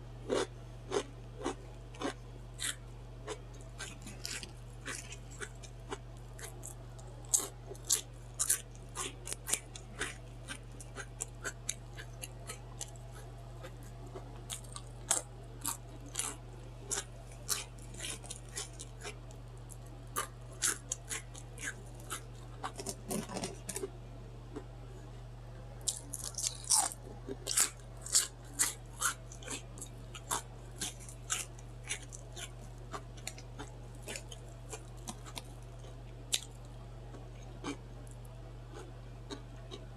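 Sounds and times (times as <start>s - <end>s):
low hum: 0.0s - 39.9s
chewing with wet smacking: 0.3s - 23.9s, 25.9s - 39.9s.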